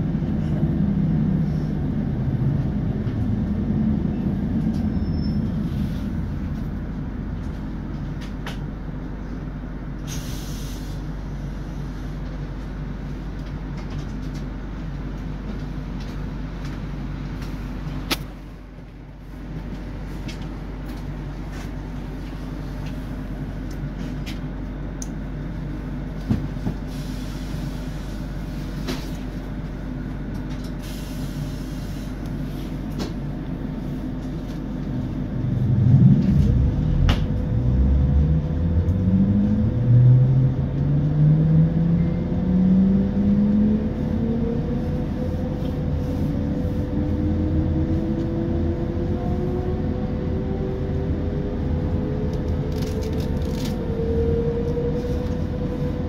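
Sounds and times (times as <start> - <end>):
electric train hum and rumble: 0.0 - 56.0.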